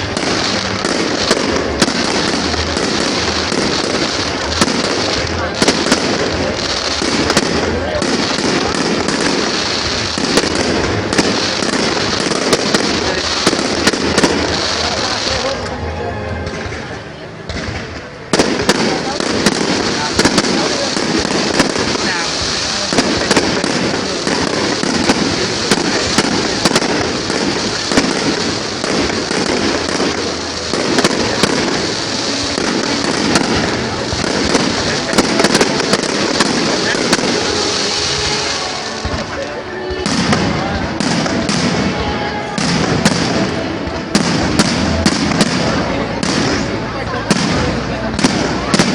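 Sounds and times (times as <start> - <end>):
fireworks crackling: 0.0 - 48.9
fireworks sharp bangs: 0.0 - 48.9.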